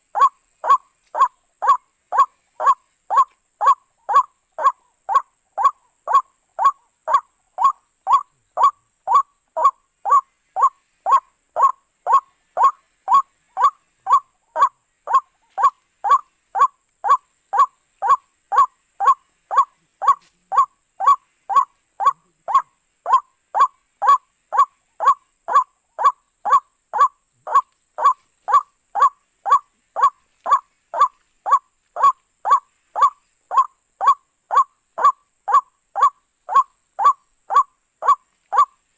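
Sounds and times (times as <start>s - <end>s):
waterhen calling: 0.0s - 38.8s.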